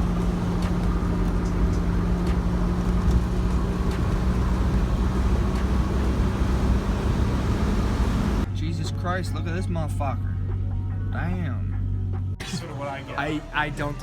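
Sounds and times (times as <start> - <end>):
constant low hum: 0.0 - 13.6
car engine and road noise: 0.0 - 14.0.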